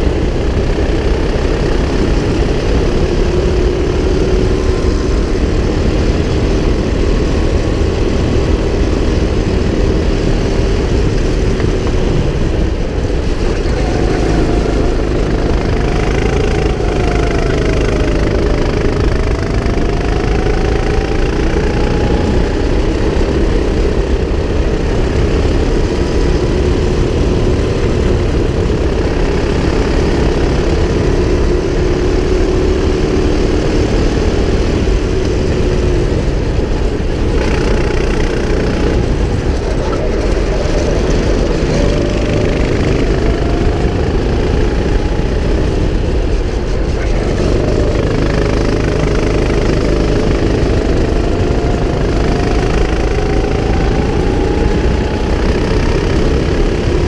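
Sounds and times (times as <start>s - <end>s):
go-kart engine running: 0.0s - 57.0s
steady rushing noise: 0.0s - 57.0s.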